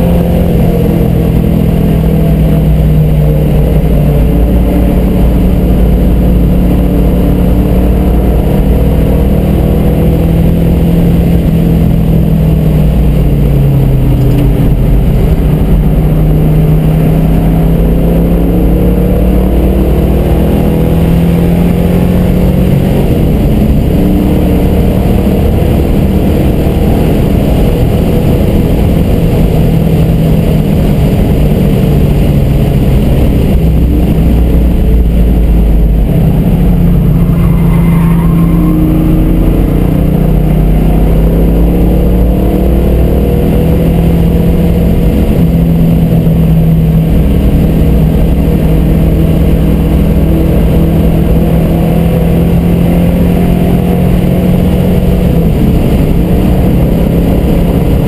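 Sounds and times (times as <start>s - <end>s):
car engine heard from inside cabin: 0.0s - 58.0s.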